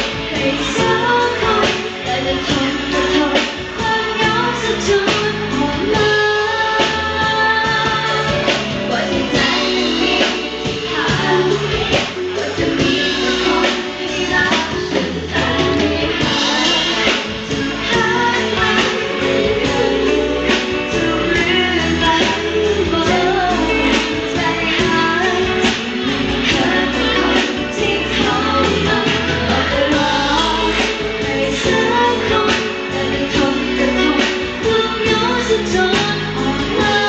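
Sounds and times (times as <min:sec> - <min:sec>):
bass guitar: 0:00.0 - 0:37.0
steady drum beat: 0:00.0 - 0:37.0
women singing lead vocals: 0:00.0 - 0:37.0.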